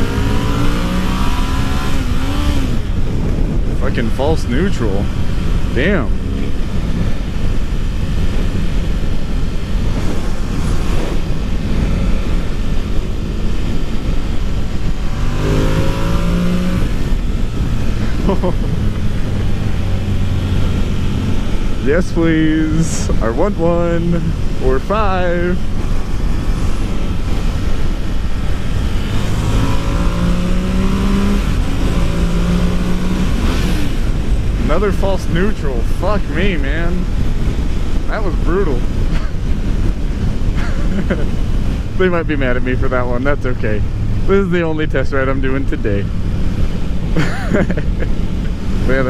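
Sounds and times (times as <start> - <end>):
motorcycle engine running: 0.0 - 49.0
wind rush on microphone: 0.0 - 49.0.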